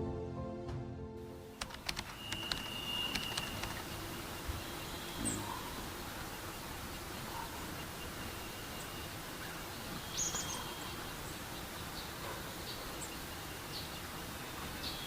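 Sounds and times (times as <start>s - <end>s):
steady outdoor hiss: 1.2s - 15.0s
bird chirps: 1.6s - 15.0s.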